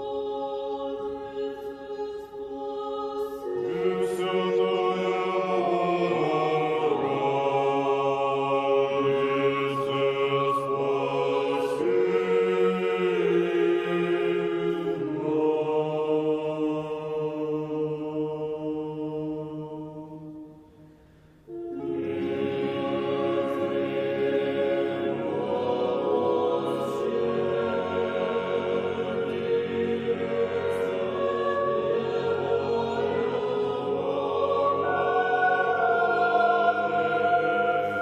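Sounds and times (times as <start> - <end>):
choir singing slow chant: 0.0 - 38.0.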